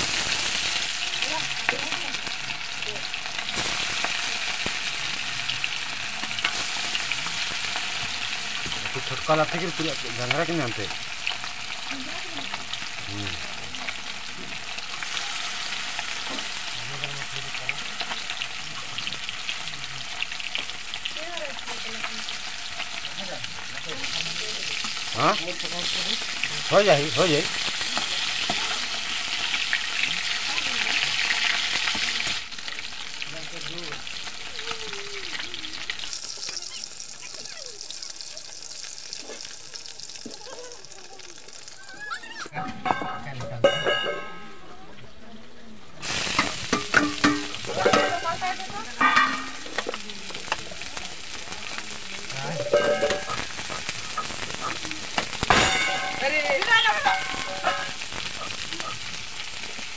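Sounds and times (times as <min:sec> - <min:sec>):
fish sizzling in hot oil: 0:00.0 - 0:42.6, 0:46.0 - 0:59.9.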